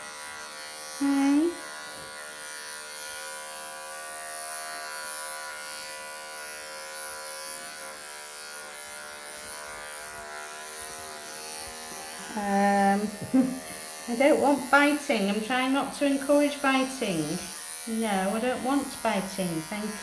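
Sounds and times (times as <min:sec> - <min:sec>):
electric clippers buzzing: 0:00.0 - 0:20.0.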